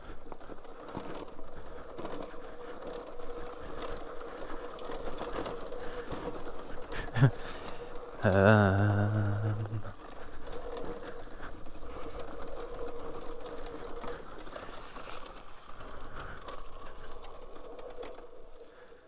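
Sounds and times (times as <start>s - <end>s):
bike ticking and clattering: 0.0s - 19.0s.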